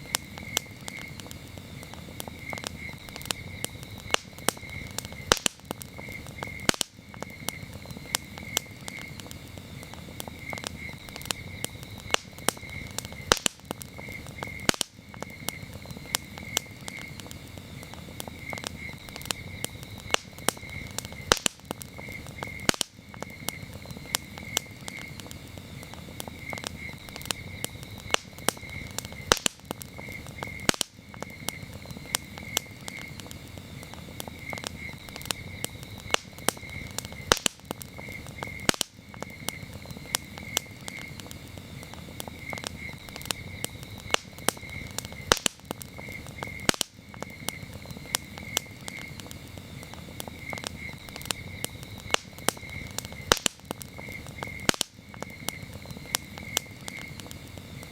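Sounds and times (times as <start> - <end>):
campfire burning: 0.0 - 57.9
crickets chirping: 0.0 - 57.9
wood crackling and popping: 0.0 - 57.9.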